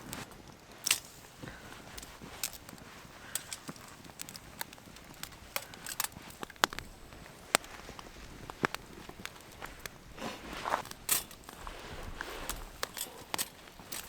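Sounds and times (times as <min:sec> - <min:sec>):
short rustle: 0:00.0 - 0:14.0
wood fire crackling: 0:00.0 - 0:14.0.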